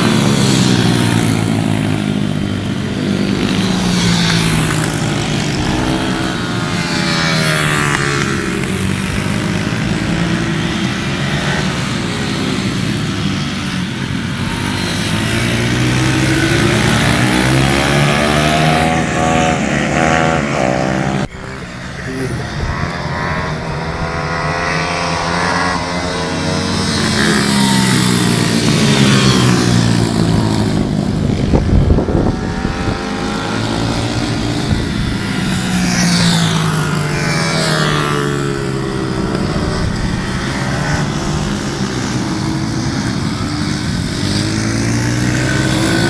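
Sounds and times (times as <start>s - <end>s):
motorbike engine revving: 0.0s - 46.0s.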